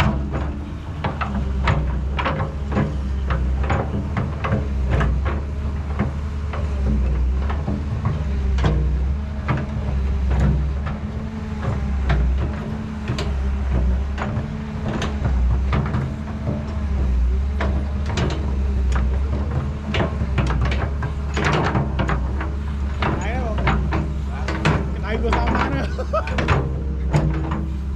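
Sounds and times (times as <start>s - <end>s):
clicks and knocks of moving parts: 0.0s - 27.9s
model excavator motor hum: 0.0s - 27.9s.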